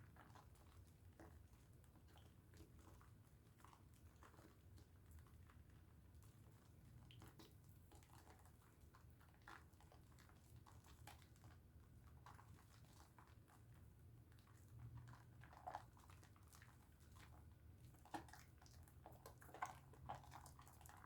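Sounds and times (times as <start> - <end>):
soap lathering squishing: 0.2 - 21.0.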